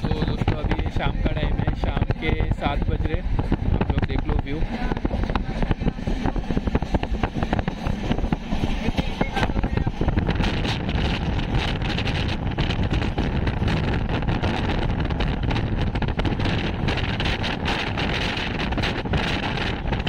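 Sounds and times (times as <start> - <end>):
train coaches rumbling: 0.0 - 20.0
wind buffeting microphone: 0.0 - 20.0.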